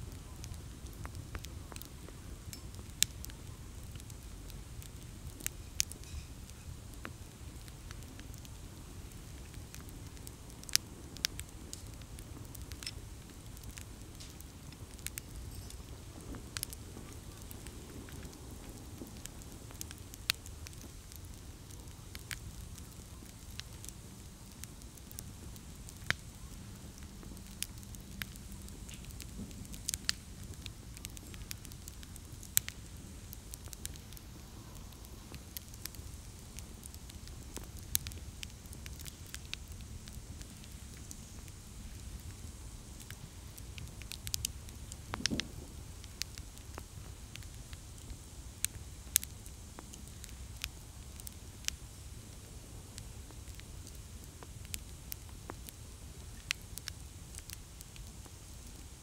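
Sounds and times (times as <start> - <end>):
campfire crackling and popping: 0.0 - 59.0
low fire rumble: 0.0 - 59.0.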